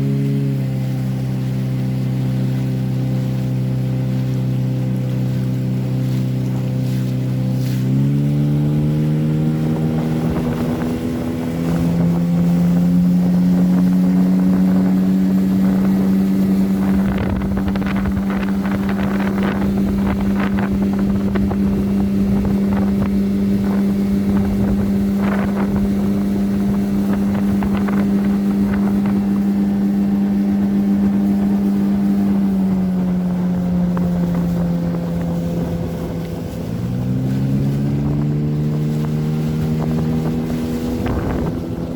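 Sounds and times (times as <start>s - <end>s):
outboard motor running: 0.0s - 41.9s
wind on microphone: 0.0s - 41.9s.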